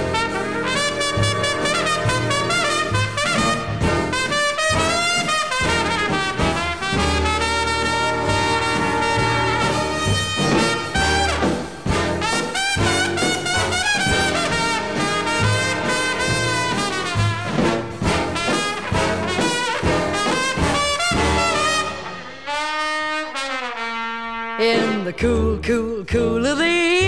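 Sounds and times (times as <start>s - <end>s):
trumpets and trombones: 0.0s - 25.6s
big band swing music: 0.0s - 27.0s.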